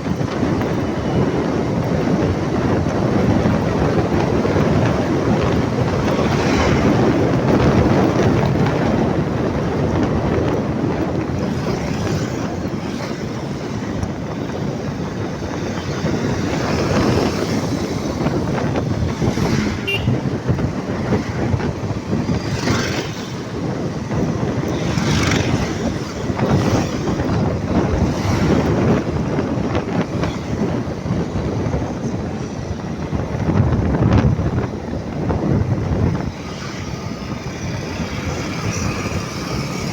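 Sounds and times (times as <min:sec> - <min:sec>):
road vehicle rumble: 0:00.0 - 0:39.9
vehicles passing: 0:00.0 - 0:39.9
wind buffeting microphone: 0:00.0 - 0:39.9.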